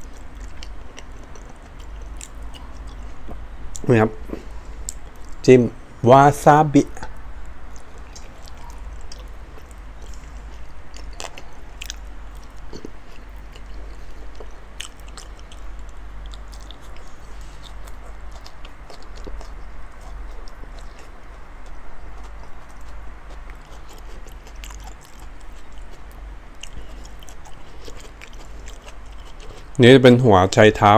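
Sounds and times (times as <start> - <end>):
man chewing: 0.0 - 5.5, 7.0 - 29.8
low hum: 0.0 - 29.8.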